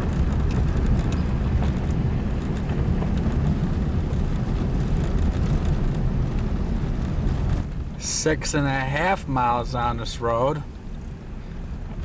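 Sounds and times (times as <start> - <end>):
car engine rumble: 0.0 - 12.0
tyres on gravel road: 0.0 - 12.0.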